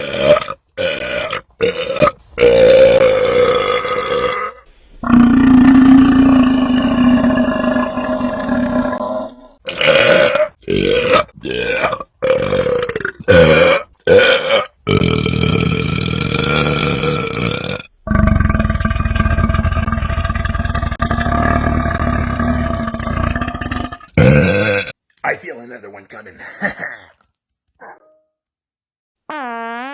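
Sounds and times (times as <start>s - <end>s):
man belching: 0.0s - 19.1s, 21.1s - 25.0s, 26.2s - 27.3s.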